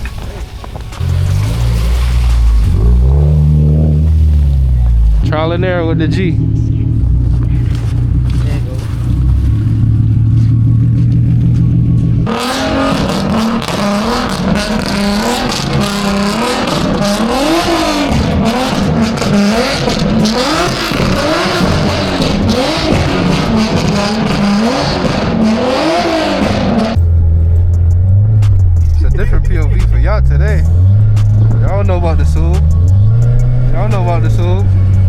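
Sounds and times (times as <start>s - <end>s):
car engine idling and revving: 0.0s - 35.0s.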